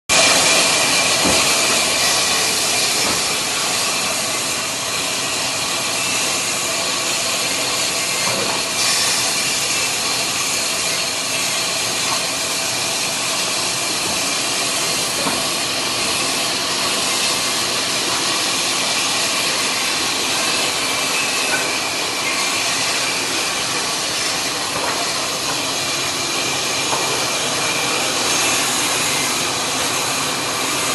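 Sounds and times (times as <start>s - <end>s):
sawmill saw running: 0.1s - 30.9s.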